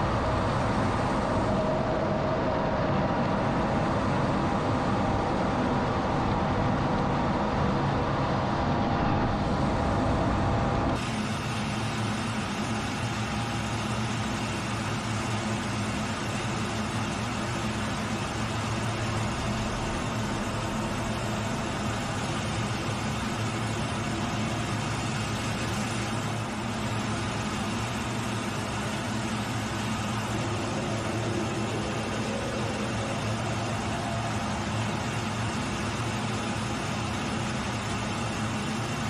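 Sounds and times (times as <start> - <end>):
low even hum: 0.0 - 11.0, 15.3 - 39.0
jet engine and airflow rush: 0.0 - 39.0.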